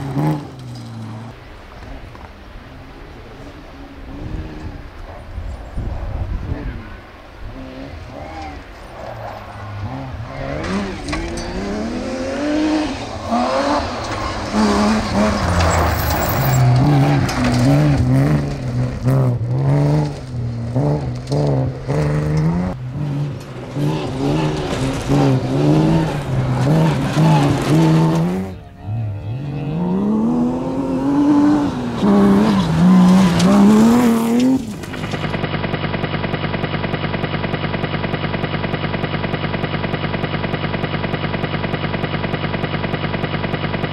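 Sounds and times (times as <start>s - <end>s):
rally car engine revving: 6.4s - 43.9s.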